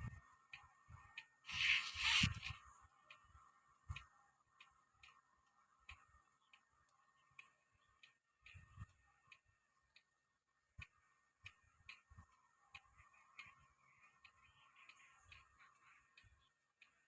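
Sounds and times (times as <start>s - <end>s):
soft irregular clicks: 0.0s - 17.0s.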